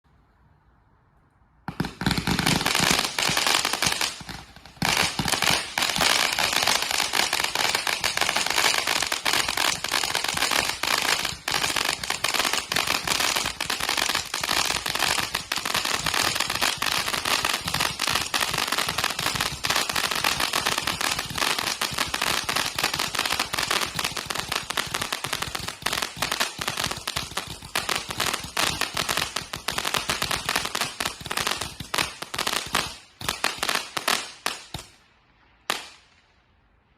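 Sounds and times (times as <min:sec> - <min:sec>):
crackling fireworks: 0:01.6 - 0:36.9
fireworks cake firing rapid shots: 0:01.7 - 0:35.0.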